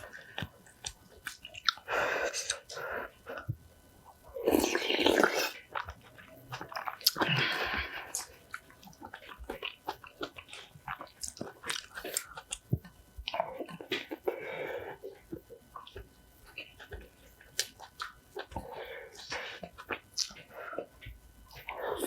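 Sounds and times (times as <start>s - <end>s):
chewing and crunchy biting: 0.0s - 22.0s.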